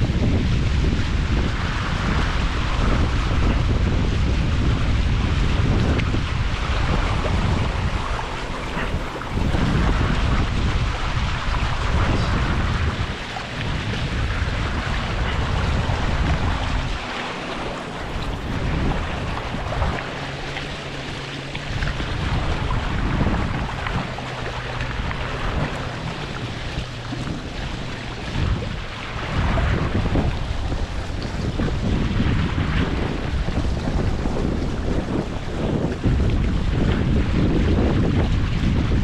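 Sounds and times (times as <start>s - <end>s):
water rushing along hulls: 0.0s - 39.0s
wind buffeting microphone: 0.0s - 39.0s.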